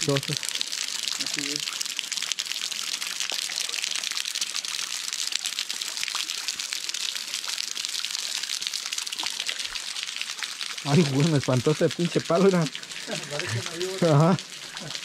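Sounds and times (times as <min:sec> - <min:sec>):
water splashing onto flowstone: 0:00.0 - 0:15.0.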